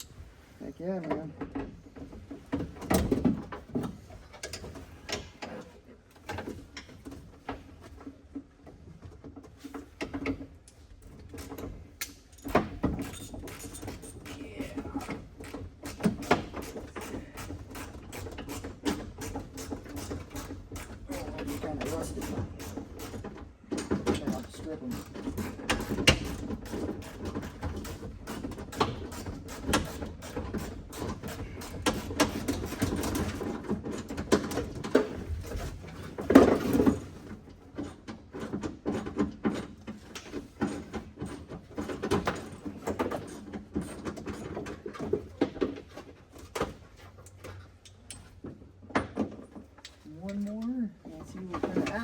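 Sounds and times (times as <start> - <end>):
hand tools clicking and rattling: 9.3 - 52.0.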